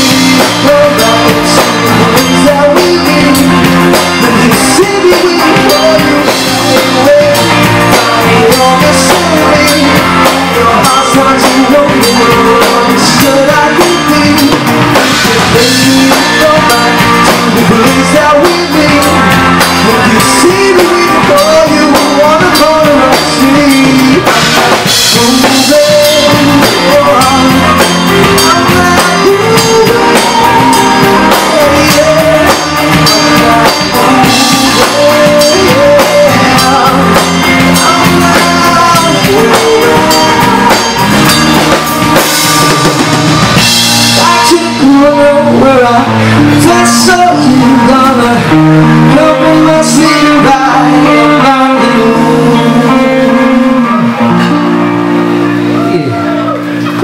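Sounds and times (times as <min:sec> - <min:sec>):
drum kit: 0:00.0 - 0:57.0
electric guitars: 0:00.0 - 0:57.0
person singing: 0:00.0 - 0:57.0.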